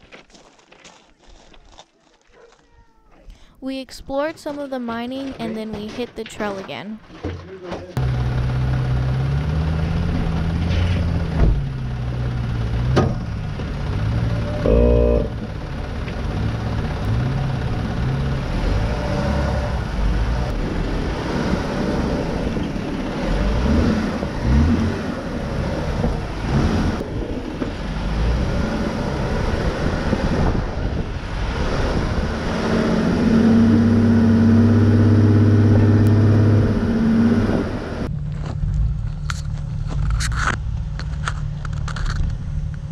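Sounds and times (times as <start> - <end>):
off-road vehicle engine revving: 7.9 - 42.7.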